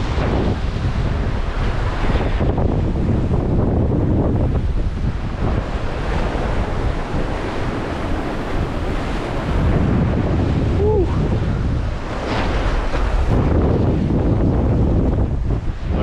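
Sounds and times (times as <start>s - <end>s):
waves washing: 0.0s - 16.0s
wind buffeting microphone: 0.0s - 16.0s.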